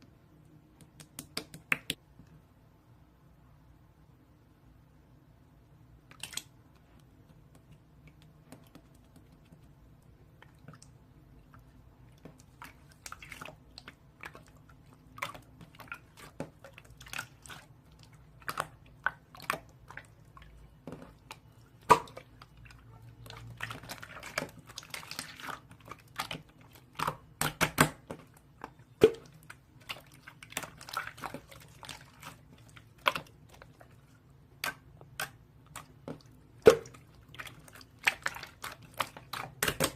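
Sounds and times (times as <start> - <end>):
close clicks and wet crackles: 6.0 - 39.9.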